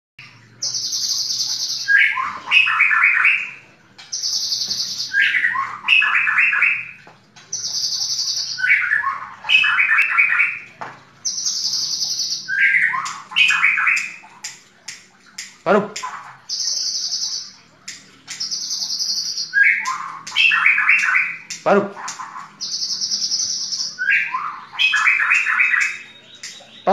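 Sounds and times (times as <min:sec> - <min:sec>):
bird singing loud phrase: 0:00.2 - 0:07.0, 0:07.6 - 0:14.2, 0:18.4 - 0:26.9.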